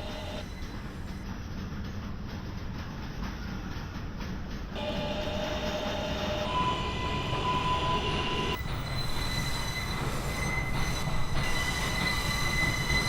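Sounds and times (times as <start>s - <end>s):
low train rumble: 0.0s - 13.0s
train wheels squealing on rails: 0.0s - 13.0s.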